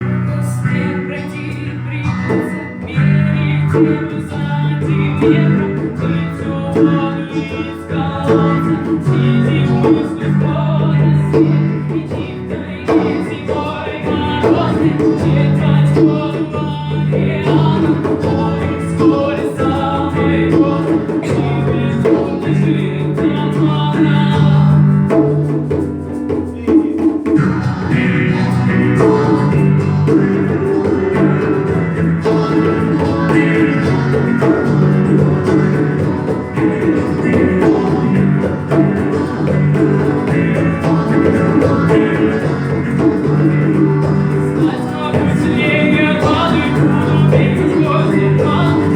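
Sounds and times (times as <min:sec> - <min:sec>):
guitar: 0:00.0 - 0:48.9
hand percussion and shaker: 0:00.0 - 0:48.9.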